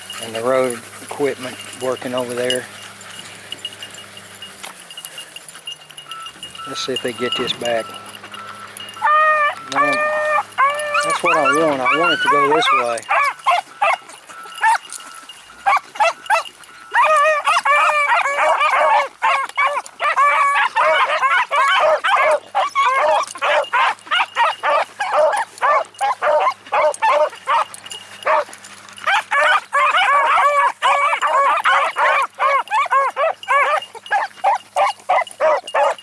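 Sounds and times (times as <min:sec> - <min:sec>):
dogs baying: 0:00.0 - 0:36.0.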